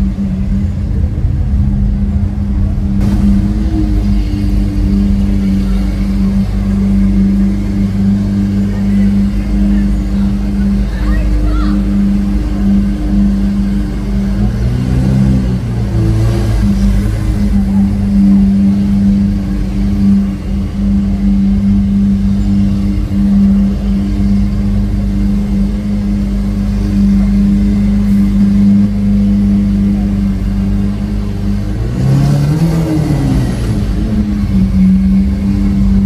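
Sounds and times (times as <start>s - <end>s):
car engine droning: 0.0s - 36.0s.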